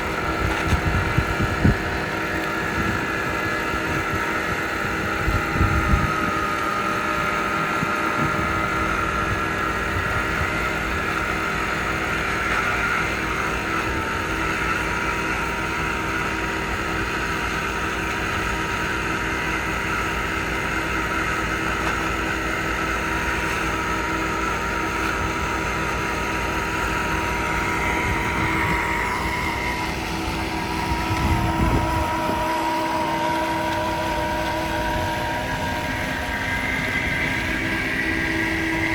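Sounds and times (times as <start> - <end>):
wind buffeting microphone: 0.0 - 19.8, 24.9 - 38.9
engine running: 0.0 - 38.9.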